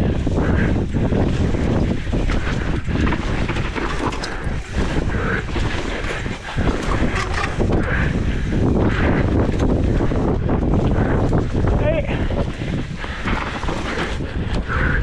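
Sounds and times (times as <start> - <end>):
bike rattling on rough ground: 0.0 - 15.0
wind buffeting microphone: 0.0 - 15.0.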